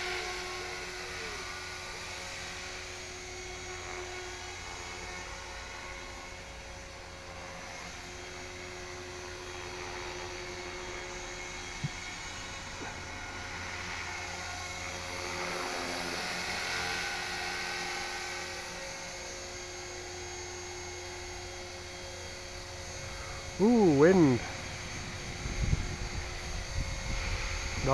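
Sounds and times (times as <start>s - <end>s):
electric motor and rotors whining: 0.0s - 27.9s.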